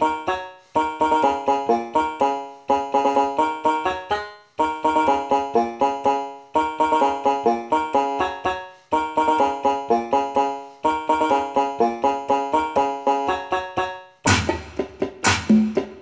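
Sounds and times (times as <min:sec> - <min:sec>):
plucked string melody: 0:00.0 - 0:15.1.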